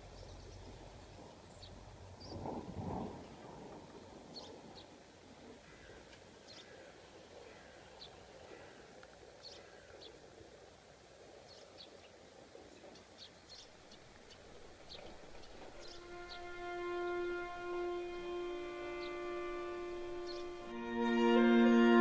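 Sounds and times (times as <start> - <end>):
faint outdoor hush: 0.0 - 22.0.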